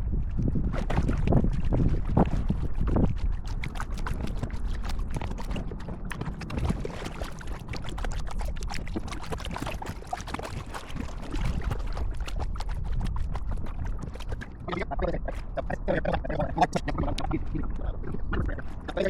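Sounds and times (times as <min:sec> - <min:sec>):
small water splashes: 0:00.0 - 0:19.0
wind rumble on microphone: 0:00.0 - 0:19.0.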